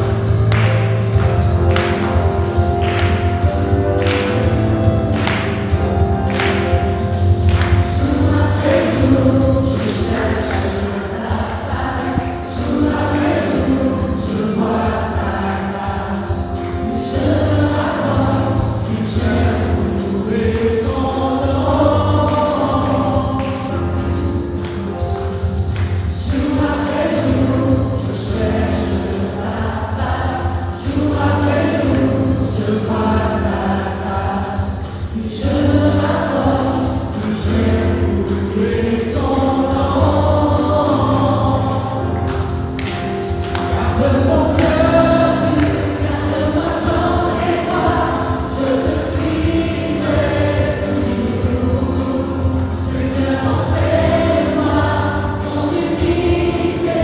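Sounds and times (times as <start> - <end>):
stage piano accompaniment: 0.0 - 57.0
women singing into microphones: 7.5 - 25.0, 26.0 - 42.4, 43.6 - 57.0.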